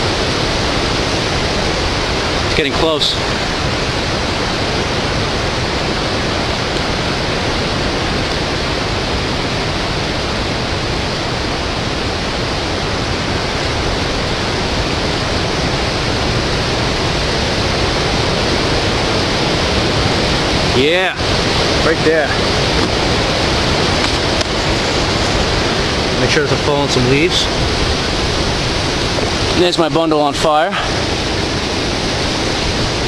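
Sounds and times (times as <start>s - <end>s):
strong wind rushing through trees: 0.0s - 33.0s.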